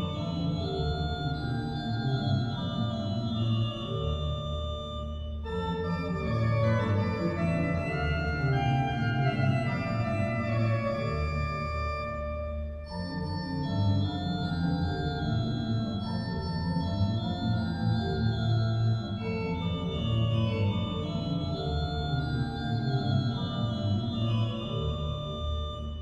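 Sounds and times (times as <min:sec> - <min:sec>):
organ playing sustained chords: 0:00.0 - 0:26.0.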